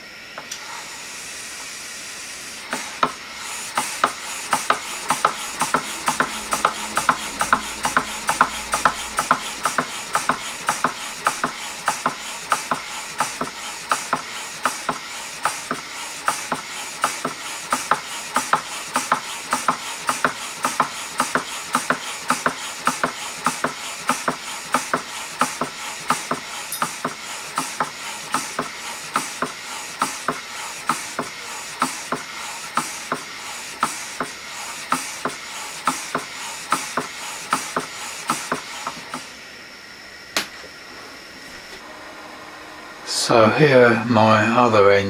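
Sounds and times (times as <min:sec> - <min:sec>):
steady steam hiss: 0:00.0 - 0:45.0
model steam engine puffing: 0:02.6 - 0:39.3.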